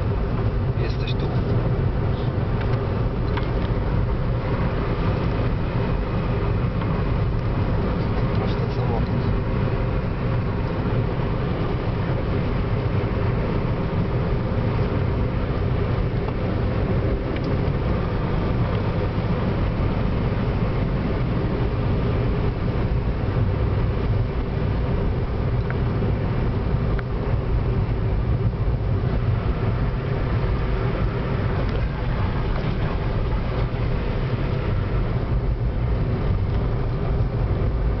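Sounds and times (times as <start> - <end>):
car engine hum: 0.0 - 38.0.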